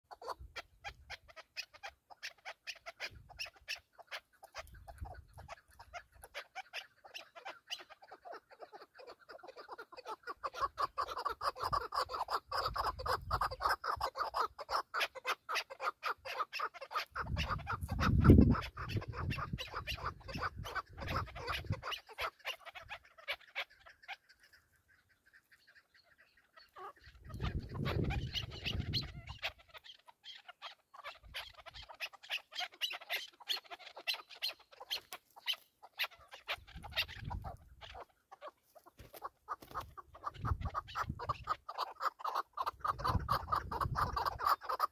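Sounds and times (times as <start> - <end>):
partridge clucking chatter: 0.1 - 44.9.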